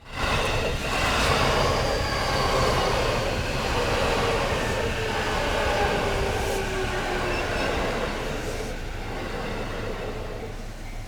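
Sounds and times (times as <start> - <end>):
electric train running past: 0.0 - 11.0
train motor whine: 0.1 - 11.0.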